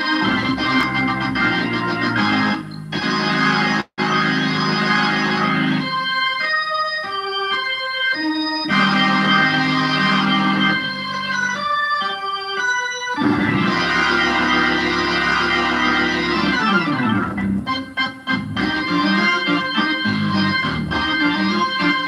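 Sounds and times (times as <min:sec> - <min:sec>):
electric organ chords: 0:00.0 - 0:22.0
organ melody notes: 0:00.0 - 0:22.0.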